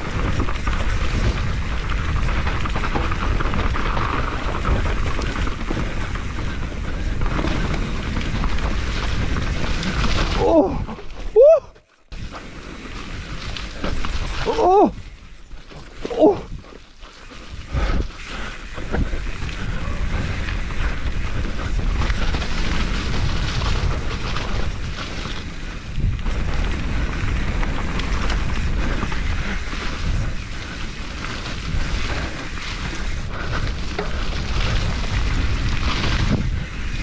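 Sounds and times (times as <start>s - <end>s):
mountain bike rattling: 0.0s - 37.0s
wind buffeting microphone: 0.0s - 37.0s.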